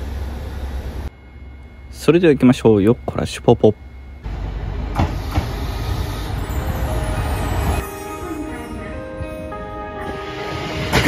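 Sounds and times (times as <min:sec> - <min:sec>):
diesel railcar engine rumble: 0:00.0 - 0:11.0.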